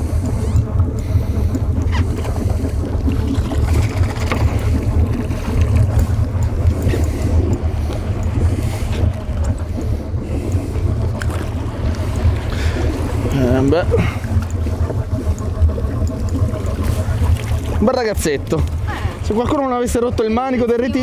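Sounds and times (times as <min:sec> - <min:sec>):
water washing against hull: 0:00.0 - 0:21.0.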